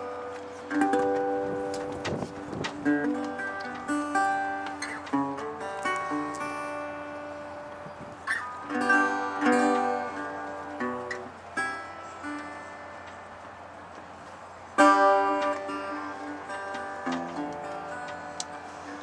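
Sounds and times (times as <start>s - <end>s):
loud strummed guitar chord: 0.0s - 13.0s, 14.8s - 19.0s
plucked guitar notes: 0.0s - 19.0s.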